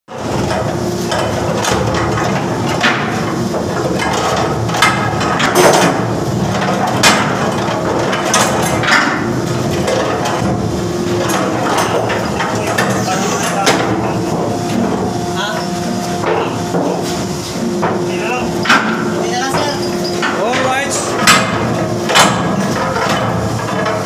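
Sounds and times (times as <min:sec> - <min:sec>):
ship machinery hum: 0:00.1 - 0:24.0.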